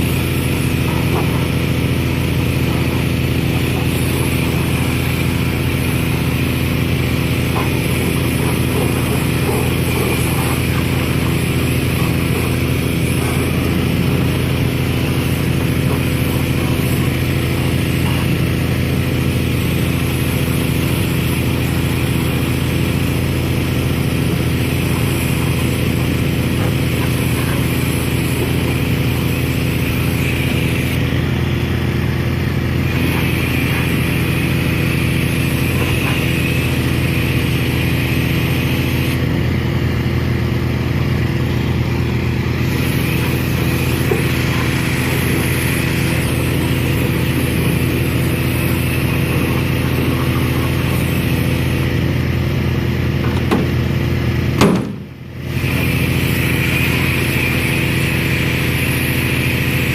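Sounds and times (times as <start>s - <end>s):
hiss: 0.0s - 31.0s, 32.9s - 39.2s, 42.6s - 51.9s, 54.8s - 59.9s
engine running steadily: 0.0s - 59.9s.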